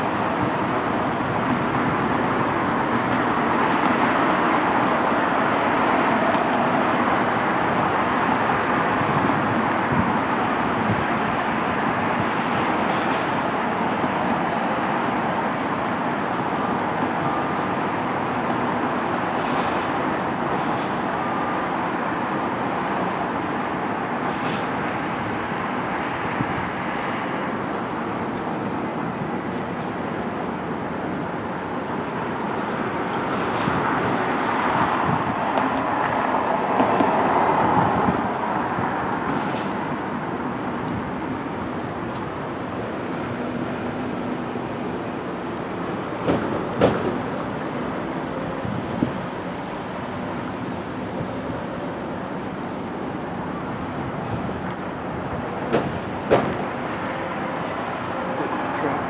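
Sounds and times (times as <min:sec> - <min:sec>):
rumble of vehicles running: 0:00.0 - 0:59.0.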